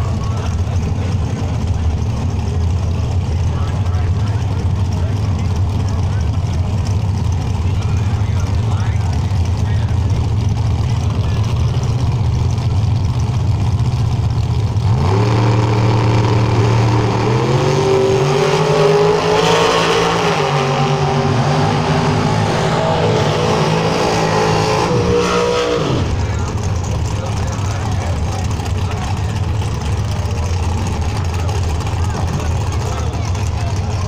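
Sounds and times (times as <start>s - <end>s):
drag car engines revving: 0.0s - 34.0s.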